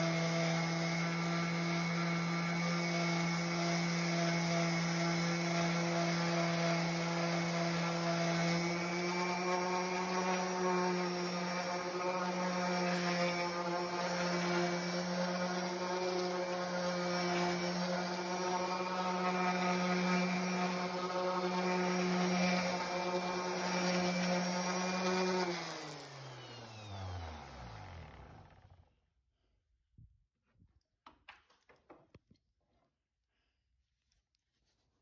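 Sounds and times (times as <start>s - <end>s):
orbital sander running: 0.0s - 28.9s
sander motor winding down: 0.0s - 29.0s.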